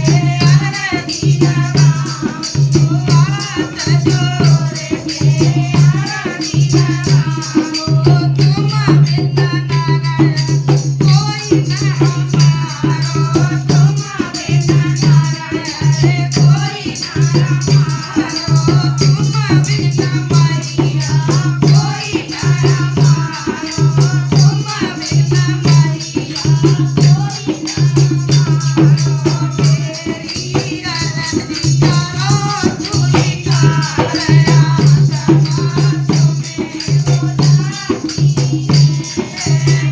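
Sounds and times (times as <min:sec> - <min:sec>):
person singing devotional song: 0:00.0 - 0:39.9
rattling shaker: 0:00.0 - 0:39.9.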